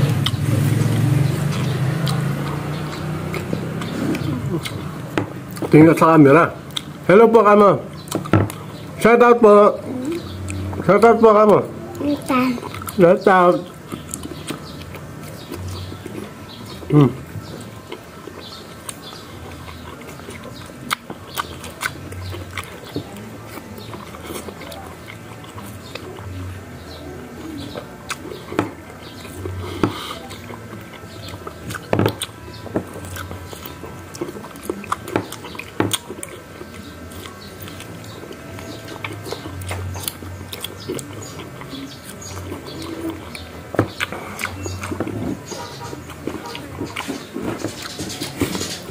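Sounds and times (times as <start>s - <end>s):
people chewing and slurping: 0.0s - 48.9s.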